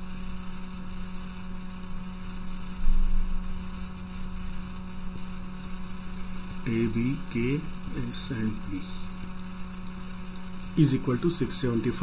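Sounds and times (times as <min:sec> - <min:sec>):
electrical mains hum and hiss: 0:00.0 - 0:12.0.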